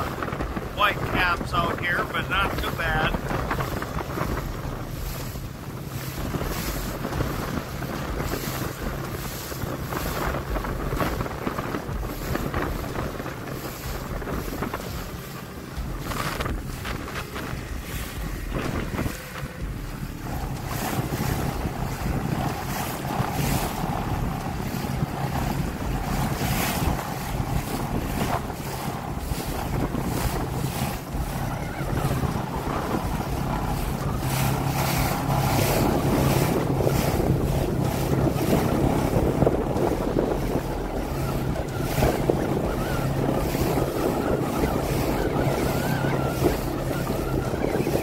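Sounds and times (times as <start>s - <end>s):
boat motor hum: 0.0s - 48.0s
water slapping hull: 0.0s - 48.0s
wind buffeting microphone: 0.0s - 48.0s.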